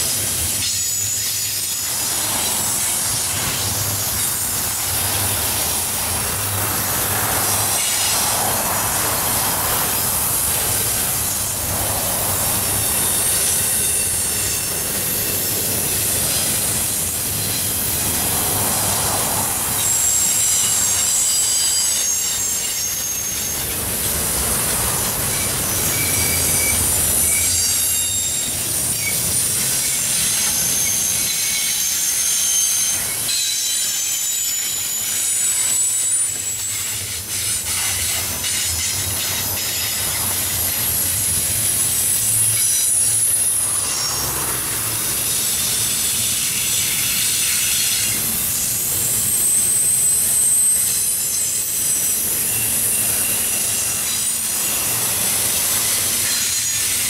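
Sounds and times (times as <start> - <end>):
steel wheels rumbling on rail: 0.0 - 57.0
high-pitched wheel squeal: 0.5 - 3.7, 12.4 - 17.6, 18.5 - 24.1, 24.8 - 57.0.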